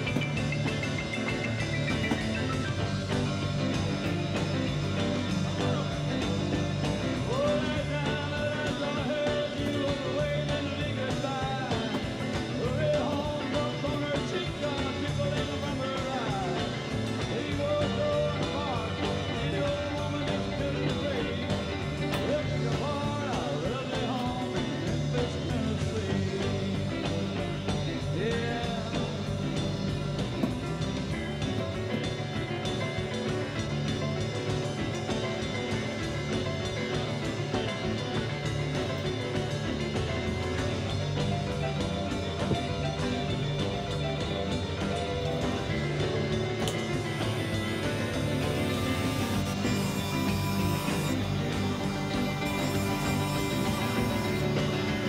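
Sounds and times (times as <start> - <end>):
background music: 0.0 - 55.0.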